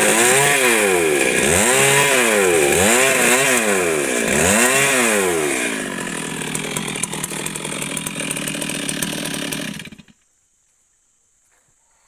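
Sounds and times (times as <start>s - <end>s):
chainsaw revving and running: 0.0s - 10.2s.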